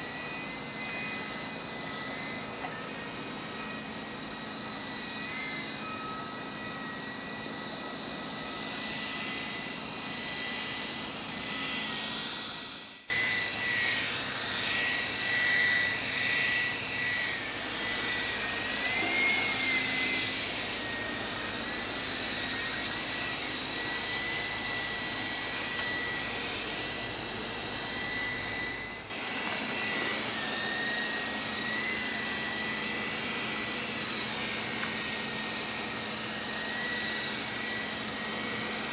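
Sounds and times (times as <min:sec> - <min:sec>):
toy helicopter rotor whine: 0:00.0 - 0:38.9.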